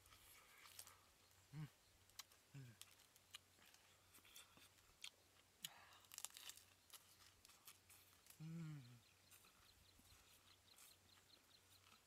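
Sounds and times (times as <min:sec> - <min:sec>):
lettuce crunching: 0:02.1 - 0:12.0.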